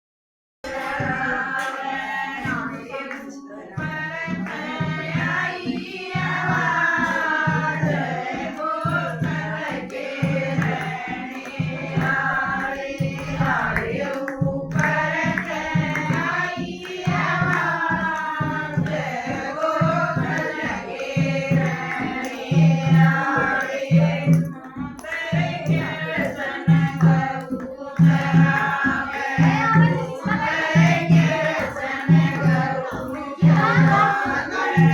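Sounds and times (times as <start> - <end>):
group of voices singing: 0.6 - 34.9.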